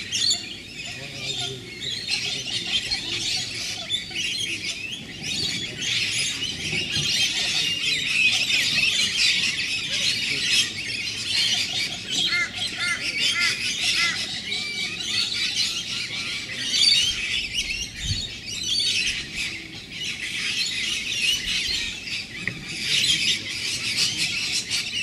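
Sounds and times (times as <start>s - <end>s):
flock of parrots screeching: 0.0s - 25.0s.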